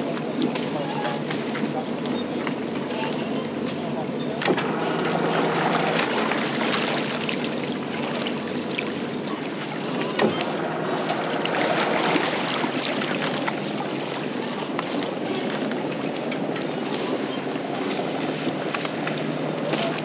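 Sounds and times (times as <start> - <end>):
boat engine drone: 0.0 - 20.0
water noise: 0.0 - 20.0.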